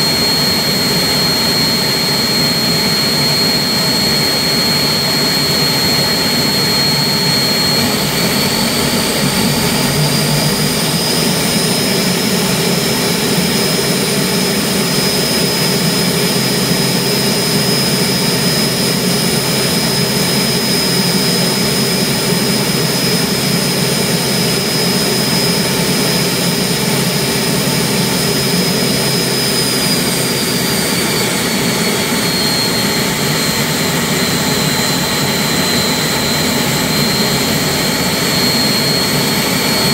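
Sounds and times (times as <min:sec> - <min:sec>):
gas turbine engine whine: 0:00.0 - 0:39.9.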